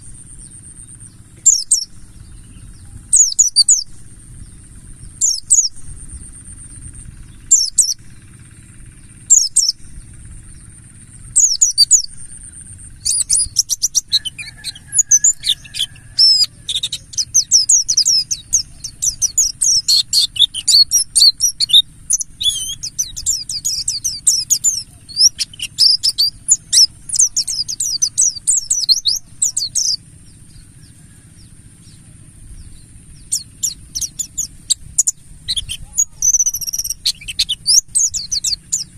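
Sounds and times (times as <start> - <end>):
bird chirping and twittering: 0.0 - 38.9
low hum: 0.0 - 38.9
steady high whine: 0.0 - 38.9.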